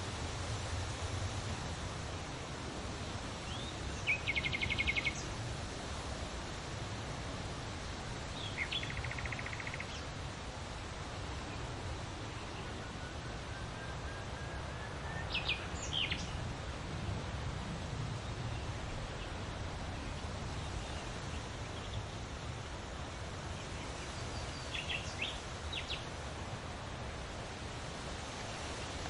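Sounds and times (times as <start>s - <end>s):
low background noise: 0.0s - 29.0s.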